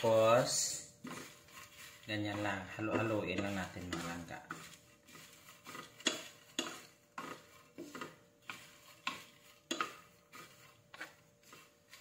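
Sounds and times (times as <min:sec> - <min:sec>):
spatulas scraping frying pan: 0:00.0 - 0:12.0.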